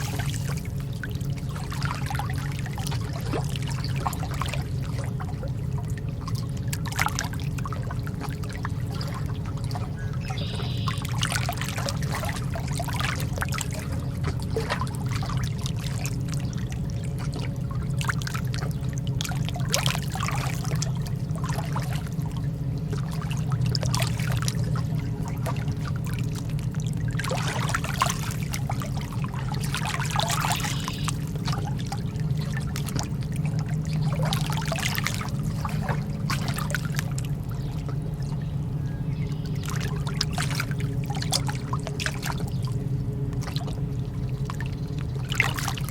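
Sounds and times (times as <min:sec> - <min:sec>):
lake water lapping at shore: 0:00.0 - 0:45.9
steady low rumble: 0:00.0 - 0:45.9.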